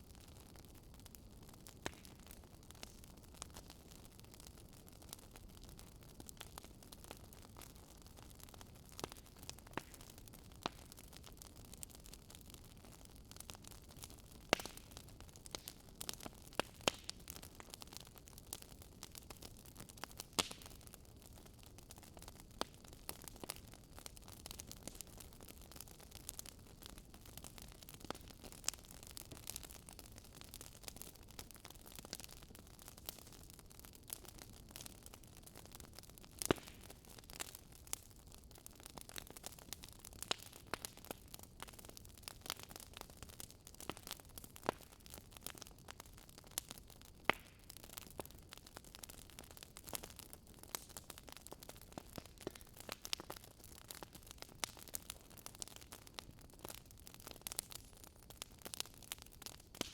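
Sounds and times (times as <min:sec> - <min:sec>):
sharp cracks of burning wood: 0:00.0 - 0:59.9
fireplace crackling: 0:05.5 - 0:59.9.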